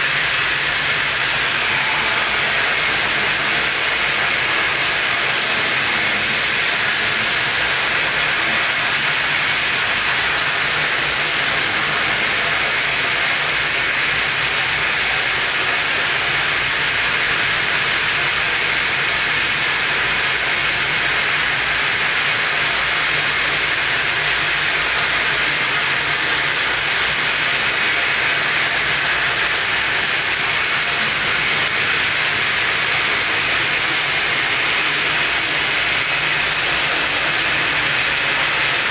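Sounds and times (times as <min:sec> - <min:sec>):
steady loud hiss: 0:00.0 - 0:38.9.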